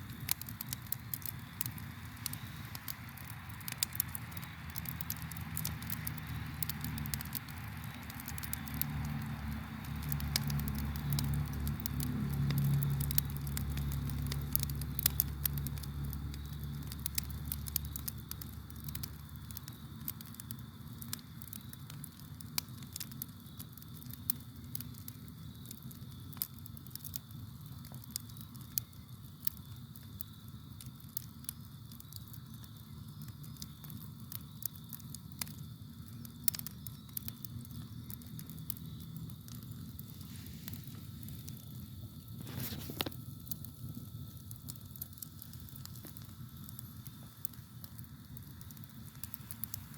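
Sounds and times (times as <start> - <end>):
crickets chirring: 0.0 - 49.9
wood crackling and popping: 0.0 - 49.9.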